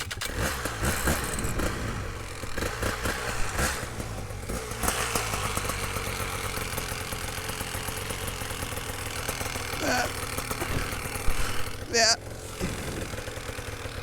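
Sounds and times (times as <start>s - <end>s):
paramotor engine and propeller: 0.0s - 14.0s.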